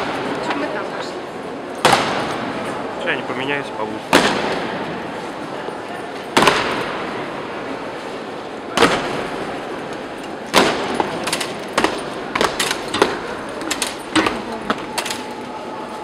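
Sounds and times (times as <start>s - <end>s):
crowd hum: 0.0s - 16.0s.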